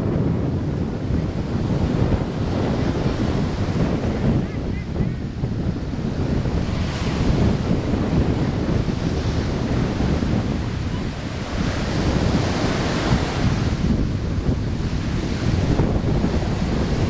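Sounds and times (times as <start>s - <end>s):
surf washing up shore: 0.0s - 17.0s
wind buffeting microphone: 0.0s - 17.0s.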